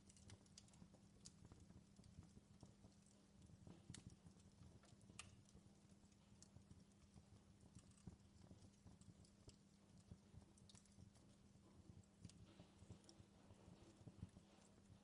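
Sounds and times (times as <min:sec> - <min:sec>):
faint wood fire crackling: 0:00.0 - 0:15.0.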